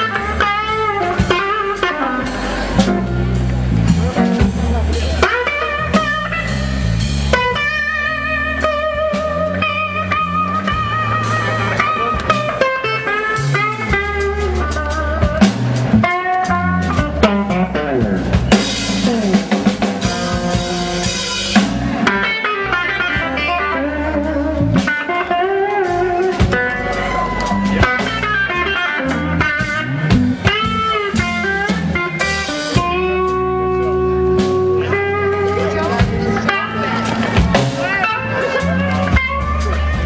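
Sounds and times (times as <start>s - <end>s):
drum kit: 0.0s - 40.0s
electric blues guitar solo: 0.0s - 40.0s.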